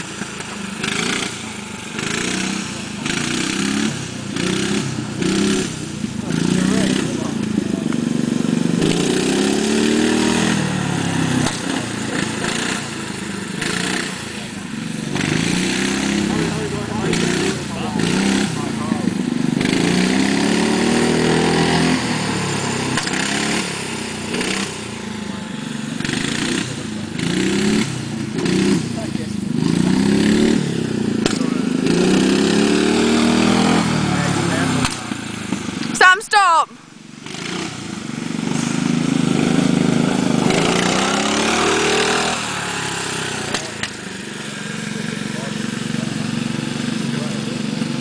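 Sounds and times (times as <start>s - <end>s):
small petrol engine running: 0.0s - 36.2s, 37.0s - 48.0s.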